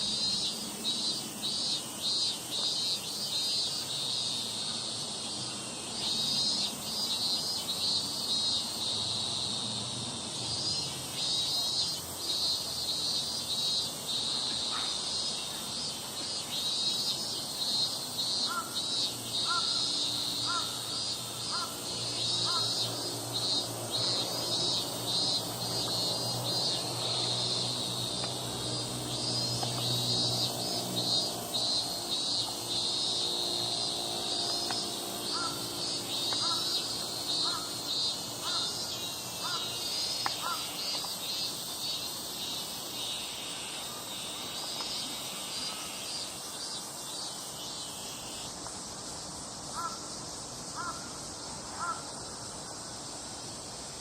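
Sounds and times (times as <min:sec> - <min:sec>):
crickets chirping: 0:00.0 - 0:54.0
high-pitched insect buzz: 0:00.1 - 0:48.6.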